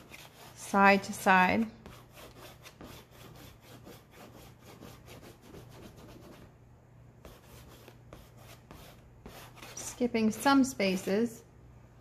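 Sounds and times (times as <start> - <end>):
chalk scraping on board: 0.0 - 6.5, 7.2 - 11.3.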